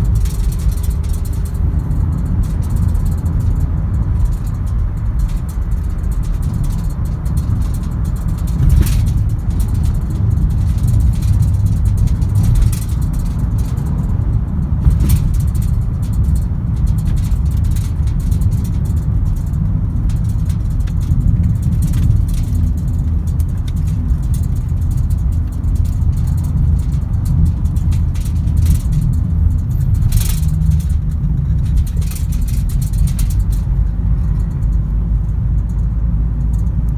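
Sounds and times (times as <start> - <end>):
car jolts: 0.0 - 33.9
small rattles: 0.0 - 36.8
car tyres rumbling on rough road: 0.0 - 36.9.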